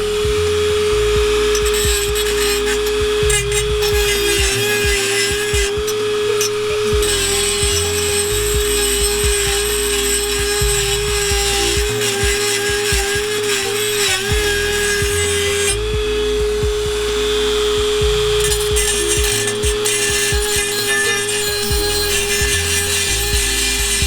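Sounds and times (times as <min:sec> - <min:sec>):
rotary tool grinding metal: 0:00.0 - 0:24.0.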